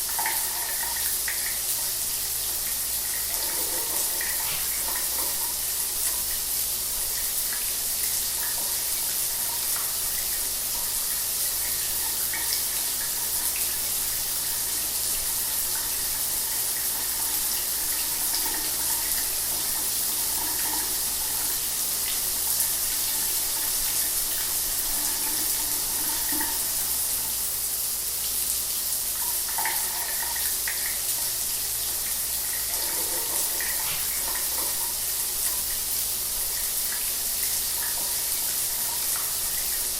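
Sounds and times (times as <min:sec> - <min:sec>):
shower water running: 0:00.0 - 0:39.9.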